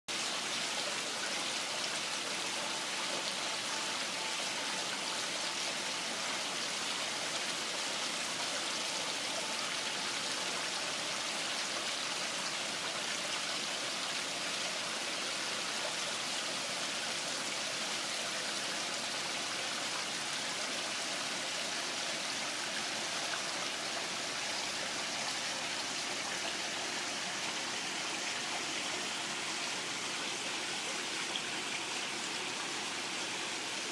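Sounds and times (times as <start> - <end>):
water running over rocks: 0.1 - 33.9.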